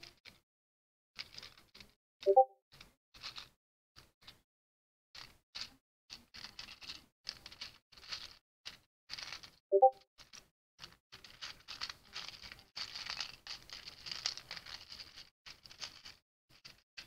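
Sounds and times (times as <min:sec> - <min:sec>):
plastic toy bricks rummaged: 0:01.2 - 0:02.0, 0:02.8 - 0:04.4, 0:05.2 - 0:09.6, 0:10.2 - 0:17.0.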